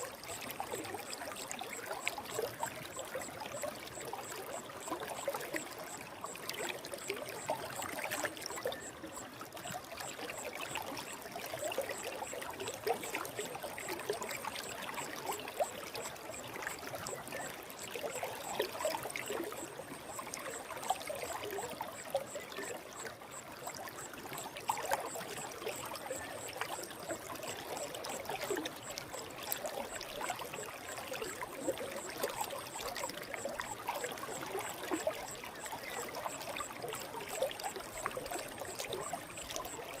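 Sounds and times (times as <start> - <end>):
faint high-pitched pulsing tone: 0.0 - 32.2, 34.4 - 40.0
stream babbling: 0.0 - 40.0.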